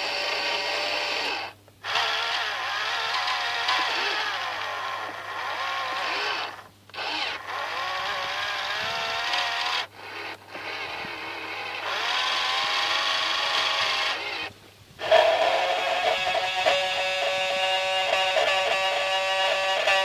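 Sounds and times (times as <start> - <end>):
small electric motors whining: 0.0 - 20.0.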